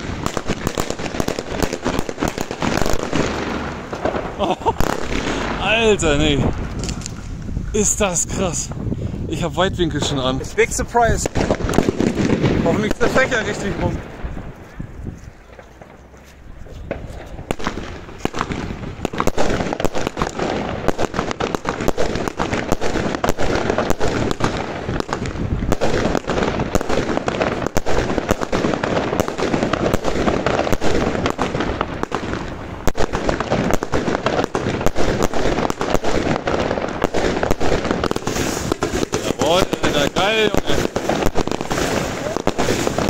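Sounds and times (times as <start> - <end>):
firework battery shots and bangs: 0.0 - 43.0.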